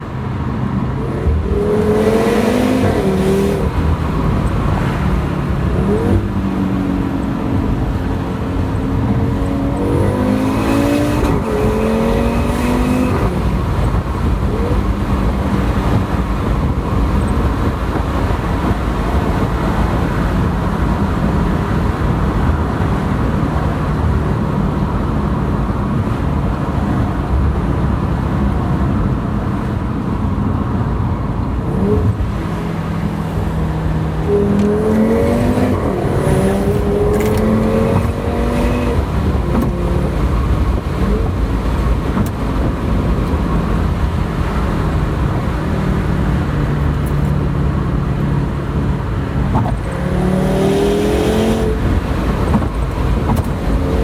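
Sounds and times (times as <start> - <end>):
car engine revving: 0.0 - 27.4, 30.5 - 54.0.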